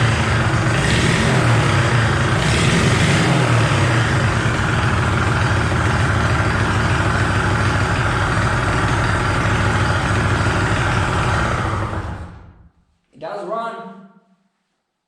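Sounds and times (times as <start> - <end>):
motorbike engine idling: 0.0 - 12.7.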